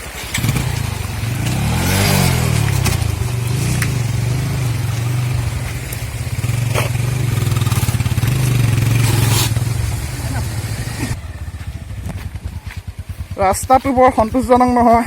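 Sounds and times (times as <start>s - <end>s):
knocks from rough road: 0.0s - 13.4s
vehicle engine running under load: 0.0s - 15.0s.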